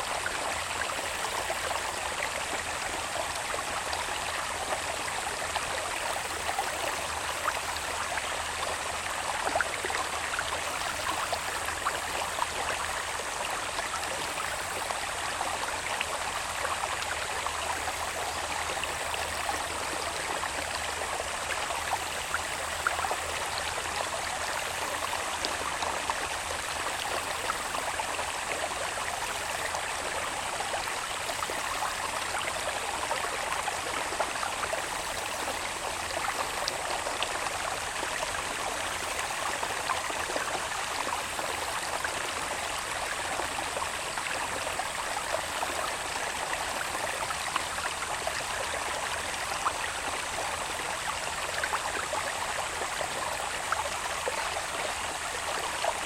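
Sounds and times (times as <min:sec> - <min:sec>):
water babbling over stones: 0:00.0 - 0:56.0.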